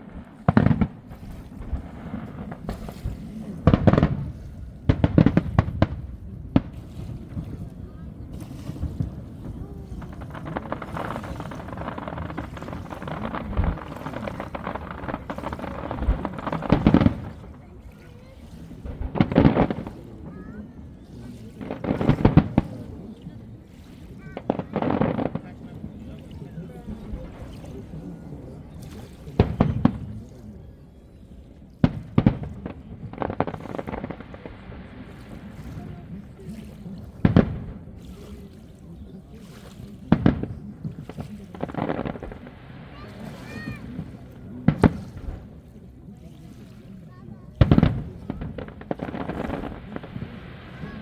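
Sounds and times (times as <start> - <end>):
fireworks crackling: 0.0 - 23.5, 24.1 - 28.0, 29.3 - 30.2, 31.8 - 39.1, 40.0 - 45.9, 47.1 - 51.0
low firework booms: 0.0 - 28.1, 29.2 - 30.3, 31.8 - 38.4, 40.0 - 45.7, 47.5 - 51.0
crowd noise: 0.0 - 51.0.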